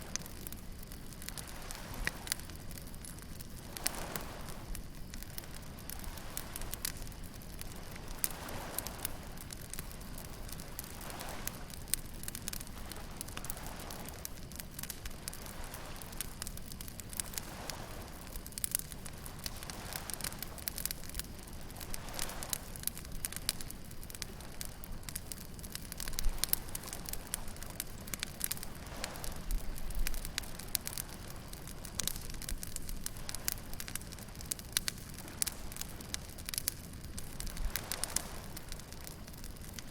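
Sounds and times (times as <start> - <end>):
bonfire crackling and popping: 0.0 - 39.9
waves on beach: 1.1 - 39.9.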